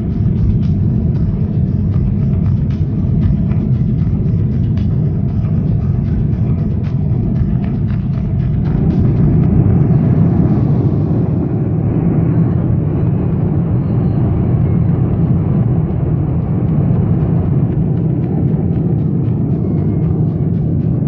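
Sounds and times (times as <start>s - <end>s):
airliner engine and airflow rumble: 0.0s - 21.0s.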